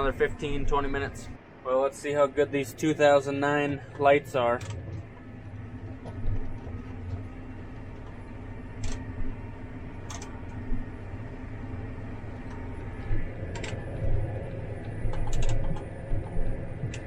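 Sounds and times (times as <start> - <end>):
tractor engine drone: 0.0 - 17.0.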